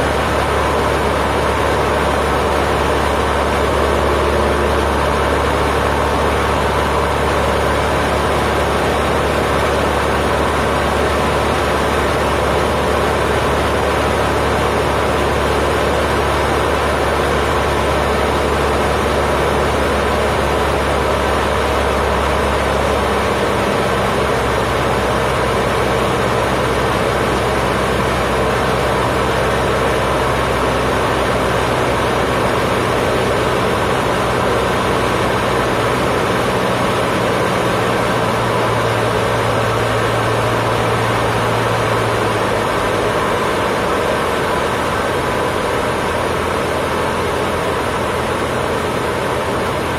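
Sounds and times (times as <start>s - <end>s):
airplane engine and propeller drone: 0.0s - 49.9s.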